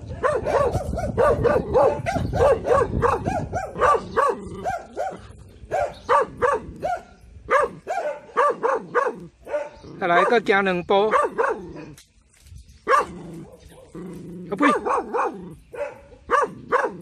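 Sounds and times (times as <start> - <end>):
dog barking rapidly: 0.2 - 10.5, 11.1 - 11.8, 12.9 - 14.0, 14.6 - 17.0.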